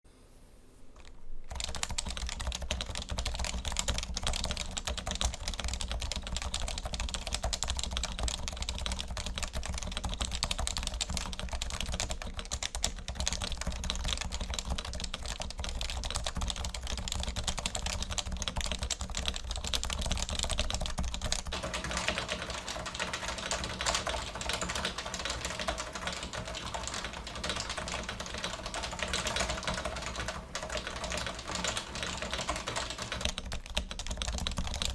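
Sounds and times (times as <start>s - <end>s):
rapid keyboard typing: 1.0s - 34.9s.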